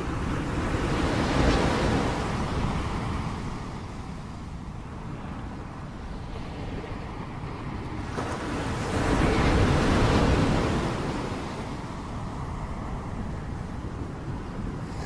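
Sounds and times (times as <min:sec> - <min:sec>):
ocean wave breaking and washing: 0:00.0 - 0:15.0.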